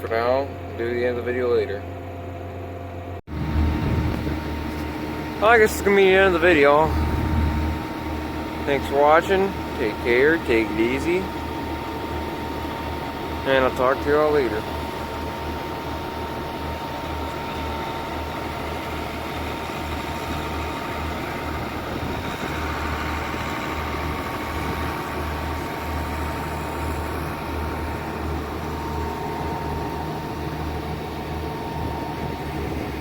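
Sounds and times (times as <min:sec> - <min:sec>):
tractor engine running: 0:00.0 - 0:33.0
thin high whine: 0:03.3 - 0:33.0.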